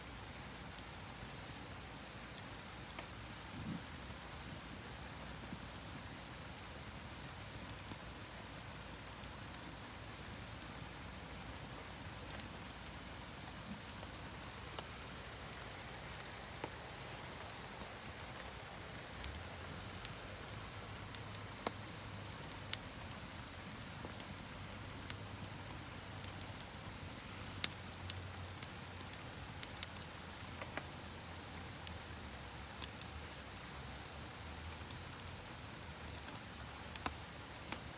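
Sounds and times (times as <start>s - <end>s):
rain hissing: 0.1s - 37.9s
campfire crackling and popping: 0.2s - 37.9s.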